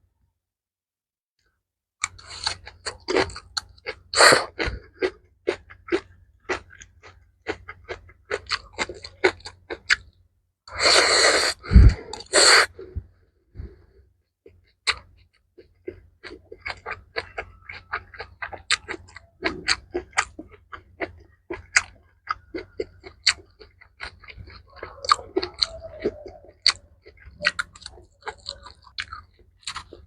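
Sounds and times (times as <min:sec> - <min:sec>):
chewing and crunching food: 0:02.0 - 0:30.0.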